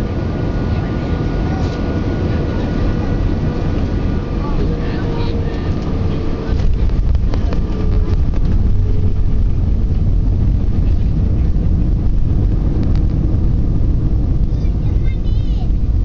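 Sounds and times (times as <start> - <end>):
airliner cabin rumble on landing: 0.0 - 16.0.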